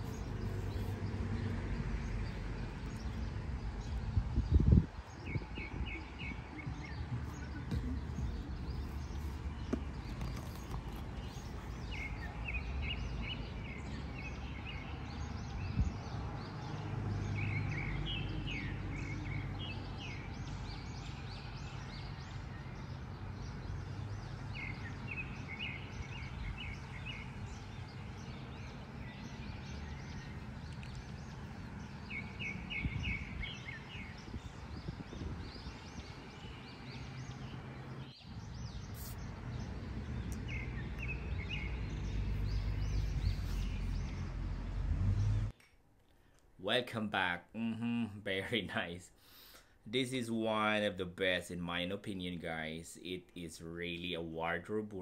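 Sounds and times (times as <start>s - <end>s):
bird chirping: 0.0s - 46.4s.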